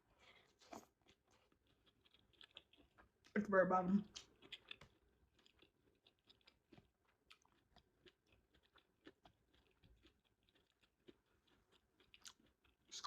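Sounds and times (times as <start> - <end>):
chewing food: 0.0 - 13.0.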